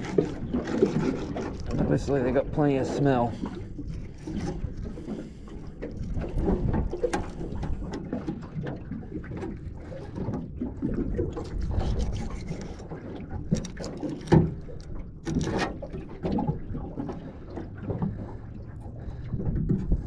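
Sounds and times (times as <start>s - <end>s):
low rumble of water and wind: 0.0s - 20.0s.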